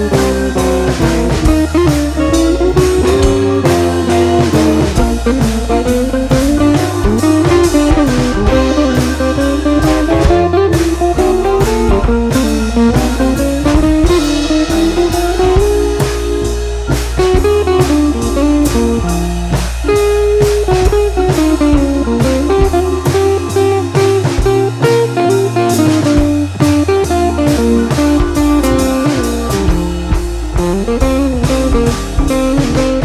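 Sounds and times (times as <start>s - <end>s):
drums with steady beat: 0.0s - 33.0s
guitar melody: 0.0s - 33.0s.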